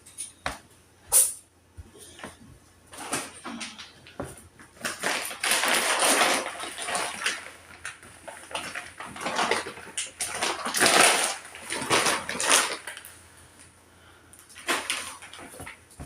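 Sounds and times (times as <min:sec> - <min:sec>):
household items rustling: 0:01.2 - 0:13.2, 0:14.4 - 0:16.0.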